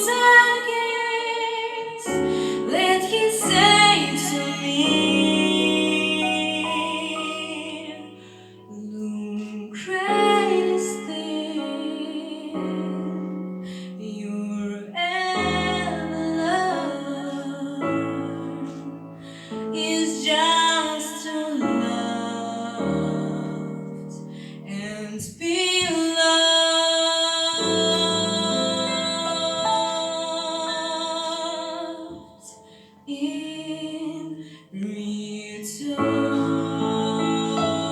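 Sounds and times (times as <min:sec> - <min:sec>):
girl singing jazz ballad: 0:00.0 - 0:37.9
piano accompaniment: 0:00.0 - 0:37.9.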